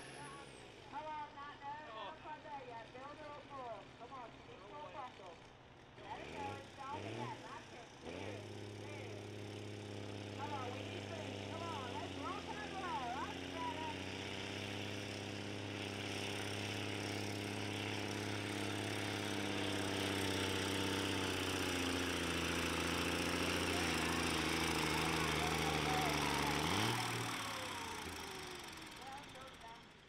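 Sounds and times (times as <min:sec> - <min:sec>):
tractor engine running: 0:00.0 - 0:01.6, 0:02.8 - 0:30.0.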